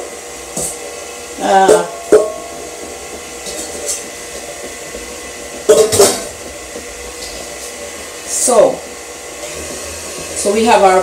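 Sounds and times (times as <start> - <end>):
stand mixer motor running: 0.0 - 11.0.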